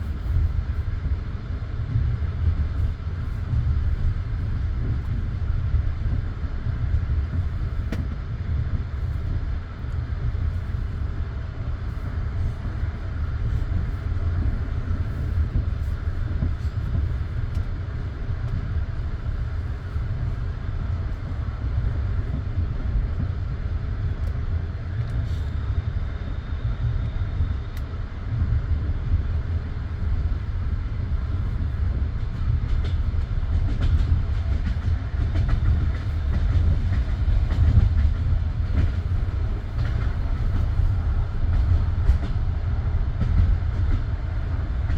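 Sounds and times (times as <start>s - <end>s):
rail clicks and clatter: 0.0s - 26.2s, 26.8s - 44.9s
train wheels rumbling: 0.0s - 44.9s.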